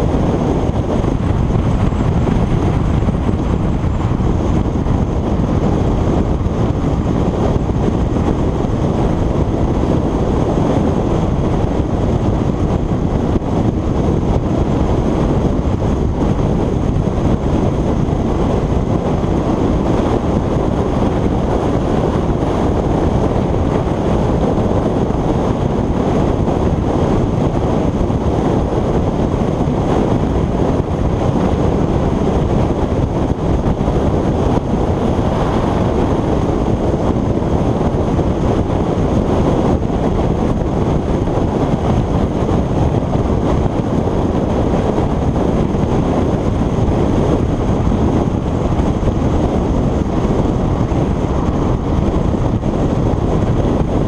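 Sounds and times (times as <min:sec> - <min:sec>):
loud wind rush over microphone: 0:00.0 - 0:54.0.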